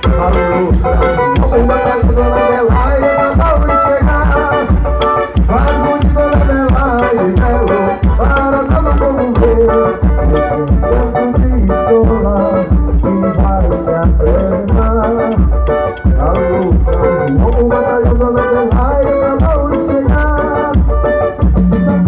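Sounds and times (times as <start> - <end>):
heavy drums: 0.0 - 22.0.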